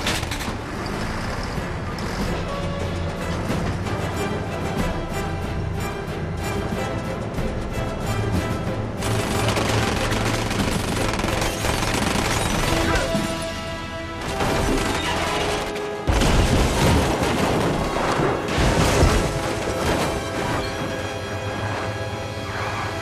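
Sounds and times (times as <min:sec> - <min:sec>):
dramatic music score: 0:00.0 - 0:23.0.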